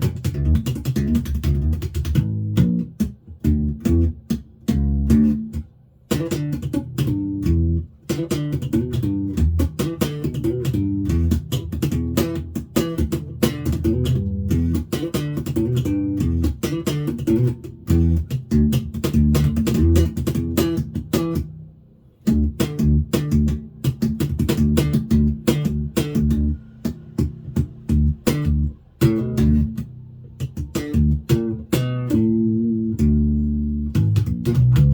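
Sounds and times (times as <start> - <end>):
electric bass plucked notes: 0.0 - 34.9.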